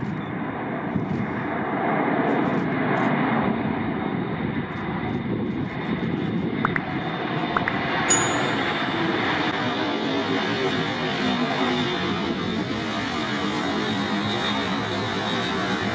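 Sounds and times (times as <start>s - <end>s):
turboprop aircraft droning: 0.0s - 15.9s.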